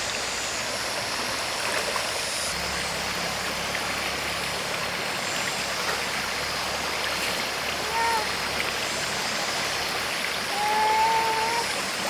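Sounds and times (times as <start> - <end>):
low motor hum: 0.0 - 12.0
stream water flowing: 0.0 - 12.0.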